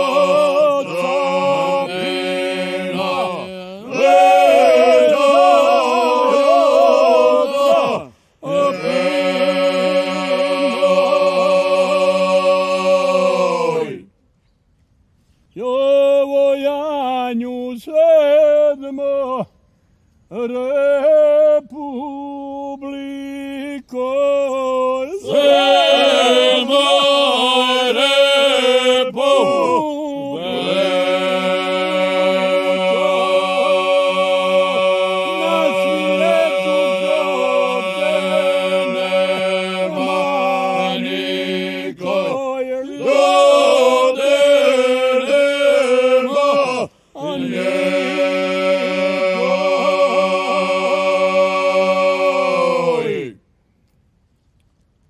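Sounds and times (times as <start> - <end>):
men singing a cappella: 0.0 - 14.1, 20.3 - 53.4.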